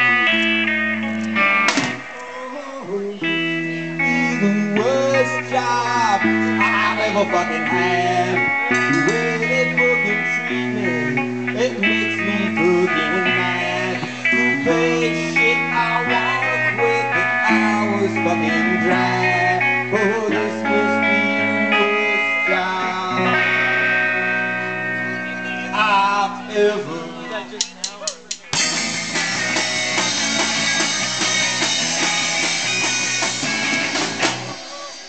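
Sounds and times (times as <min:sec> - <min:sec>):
live band electric guitar music: 0:00.0 - 0:35.0.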